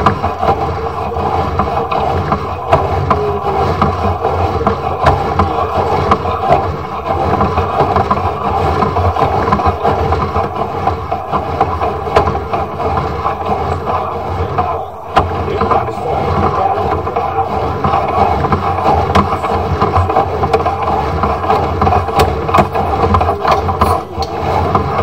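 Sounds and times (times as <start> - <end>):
cable scraping through drain pipe: 0.0 - 25.0
low hum: 0.0 - 25.0.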